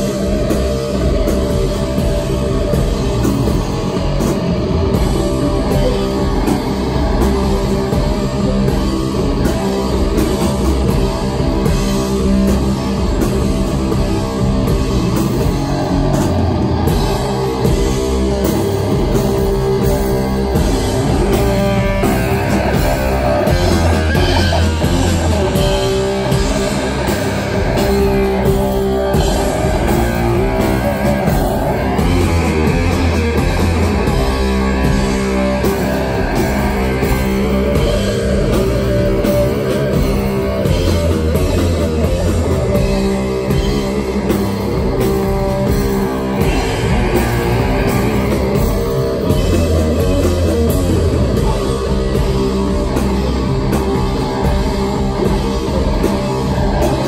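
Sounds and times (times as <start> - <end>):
heavy metal band playing: 0.0 - 57.0.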